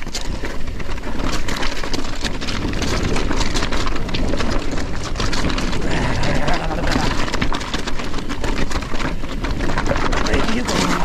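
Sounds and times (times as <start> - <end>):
bike rattling: 0.0 - 11.0
bike tyres rumbling over stones: 0.0 - 11.0.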